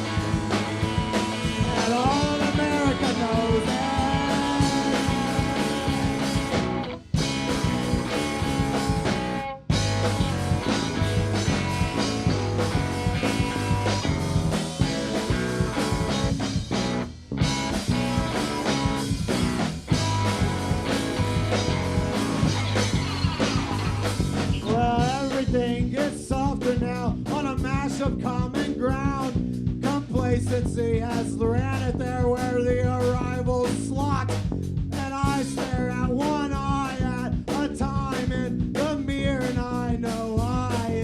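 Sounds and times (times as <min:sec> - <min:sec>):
bass guitar: 0:00.0 - 0:41.0
drum kit: 0:00.0 - 0:41.0
electric guitar: 0:00.0 - 0:41.0.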